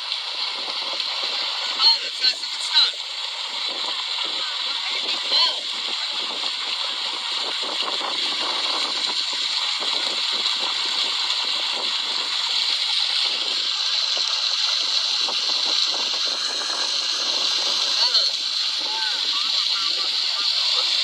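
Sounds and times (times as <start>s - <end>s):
water gushing onto stone: 0.0s - 21.0s.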